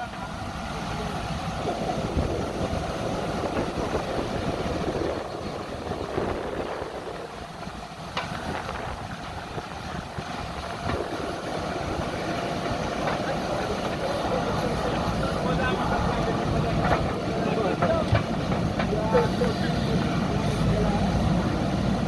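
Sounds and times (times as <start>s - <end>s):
diesel engine of heavy machinery: 0.0s - 22.0s.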